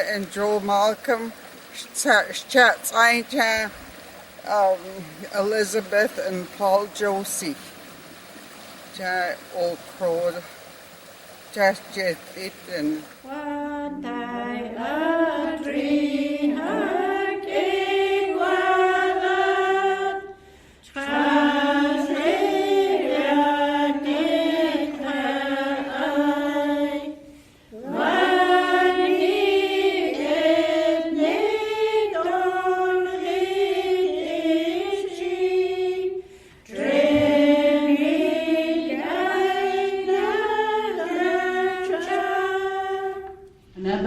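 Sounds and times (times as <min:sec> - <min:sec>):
group singing unaccompanied: 0:00.0 - 0:44.0.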